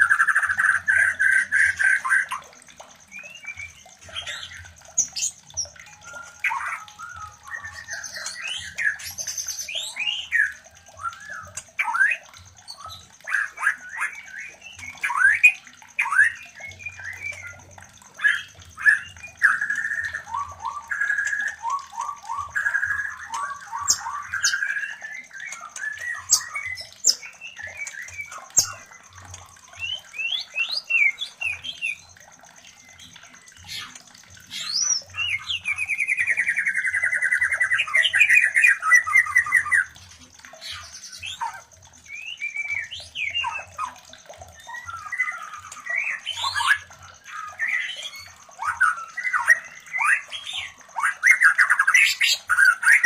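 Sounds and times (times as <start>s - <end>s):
birds calling and singing: 0.0s - 53.0s.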